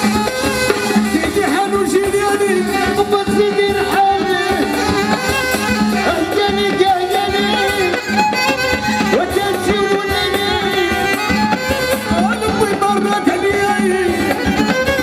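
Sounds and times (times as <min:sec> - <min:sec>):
keyboard: 0:00.0 - 0:15.0
steady drum rhythm: 0:00.0 - 0:15.0.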